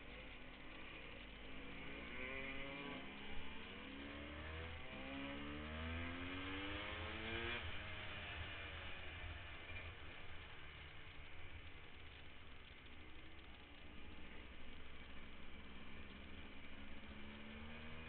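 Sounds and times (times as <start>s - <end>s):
dirt bike engine accelerating: 0.0s - 18.0s.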